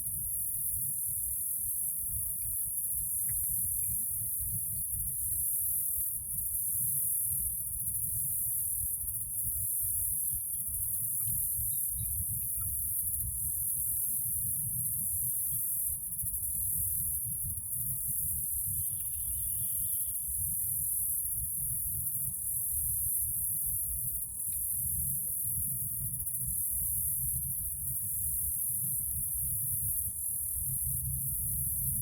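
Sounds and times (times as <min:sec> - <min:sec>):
insect chorus drone: 0:00.0 - 0:32.0.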